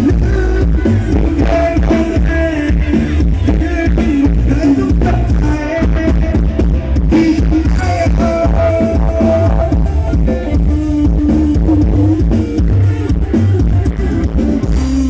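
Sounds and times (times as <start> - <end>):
person singing: 0.0 - 13.9
heavy bass music: 0.0 - 15.0.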